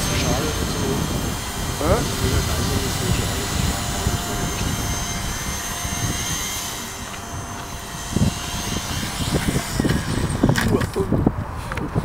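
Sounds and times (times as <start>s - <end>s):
rc helicopter rotor whine: 0.0s - 11.8s
wind buffeting microphone: 0.0s - 12.0s.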